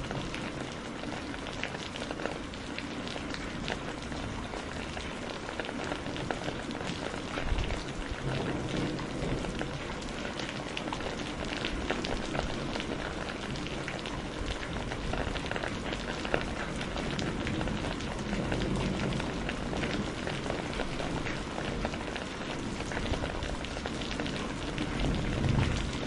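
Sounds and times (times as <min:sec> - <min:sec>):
heavy rain: 0:00.0 - 0:26.0
raindrops striking close by: 0:00.0 - 0:26.0.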